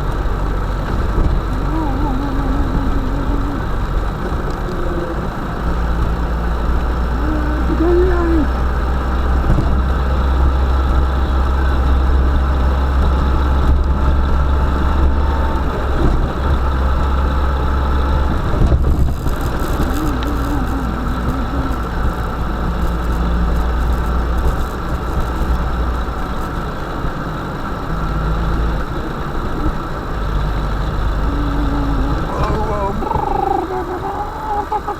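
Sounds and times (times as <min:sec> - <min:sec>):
van engine rumbling: 0:00.0 - 0:34.9.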